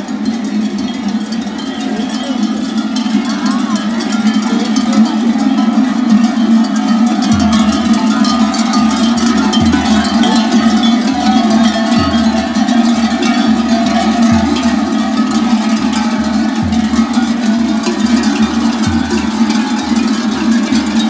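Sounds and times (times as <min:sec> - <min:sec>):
metal bells jangling: 0:00.0 - 0:21.0.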